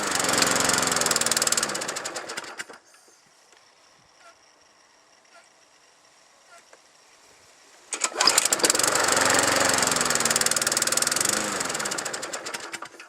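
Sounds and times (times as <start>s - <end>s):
small lawnmower engine running: 0.0s - 3.0s, 3.7s - 13.0s.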